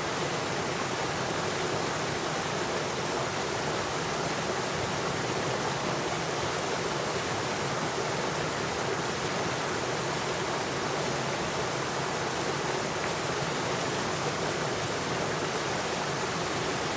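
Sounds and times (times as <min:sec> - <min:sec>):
flowing water rushing: 0:00.0 - 0:16.9.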